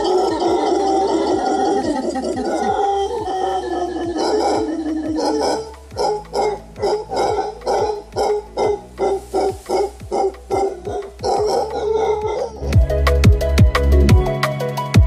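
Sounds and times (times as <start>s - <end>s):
howler monkey howling: 0.0s - 12.8s
drum and bass music: 0.0s - 15.0s.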